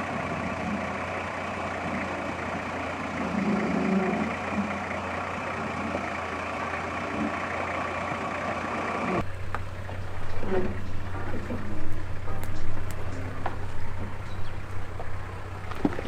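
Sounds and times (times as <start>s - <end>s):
vehicle engine at low revs: 0.0s - 16.0s.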